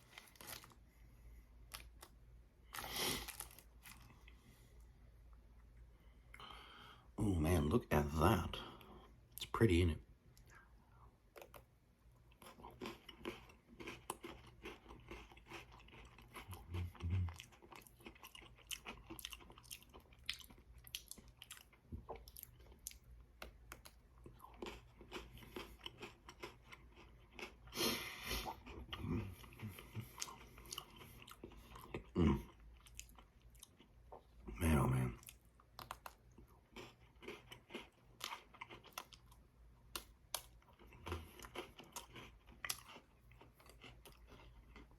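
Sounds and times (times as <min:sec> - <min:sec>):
biting and chewing crunchy biscuits: 0:00.0 - 0:04.8, 0:11.3 - 0:44.9.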